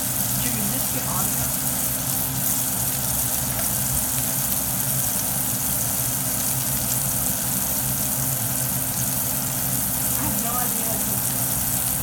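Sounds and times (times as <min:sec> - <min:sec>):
food sizzling in a pan: 0:00.0 - 0:12.0
steady low hum: 0:00.0 - 0:12.0.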